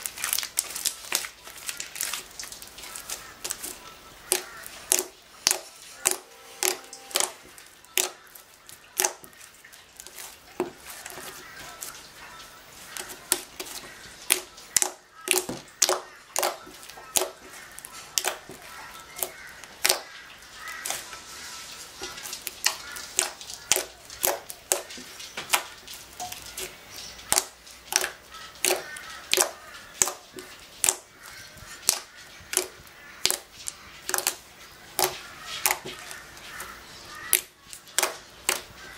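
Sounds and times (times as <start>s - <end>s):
slime popping and squelching: 0.0s - 38.9s.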